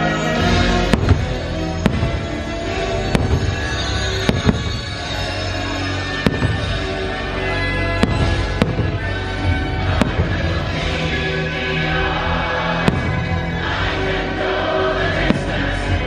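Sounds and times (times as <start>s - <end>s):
fireworks bursting with bangs: 0.5s - 12.1s, 12.7s - 14.0s, 15.1s - 16.0s.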